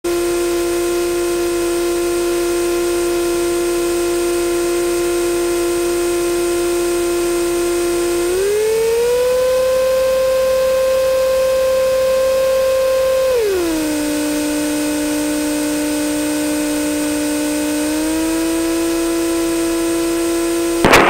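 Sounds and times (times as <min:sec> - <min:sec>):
light aircraft engine and propeller: 0:00.1 - 0:21.0.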